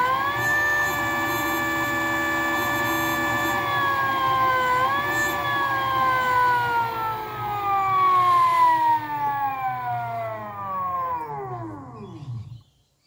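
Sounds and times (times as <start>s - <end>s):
electric motor whine: 0.0s - 12.7s.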